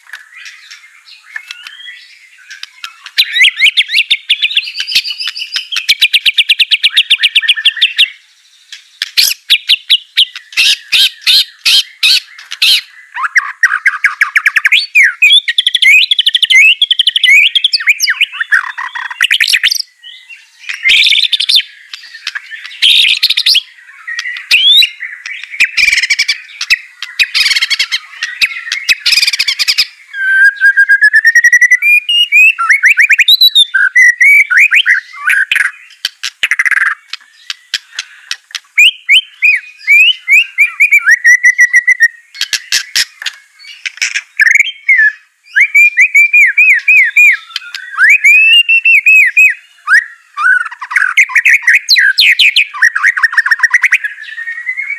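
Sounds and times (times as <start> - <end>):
bird singing varied song: 0.0 - 54.9.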